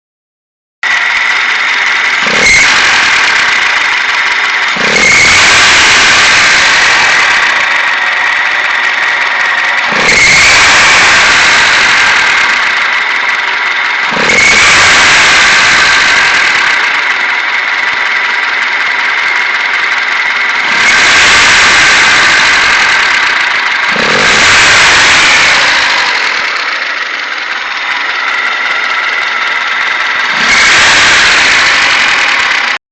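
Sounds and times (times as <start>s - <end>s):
engine running: 0.8s - 32.8s
high-pitched mechanical squeal: 0.9s - 32.8s.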